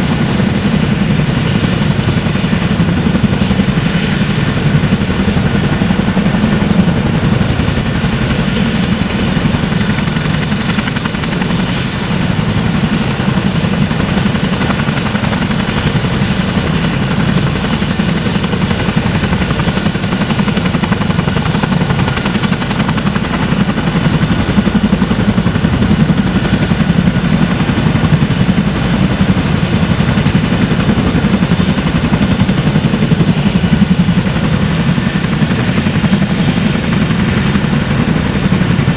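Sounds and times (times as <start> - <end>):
helicopter rotor blade chop: 0.0 - 38.9
high turbine whine: 0.0 - 38.9.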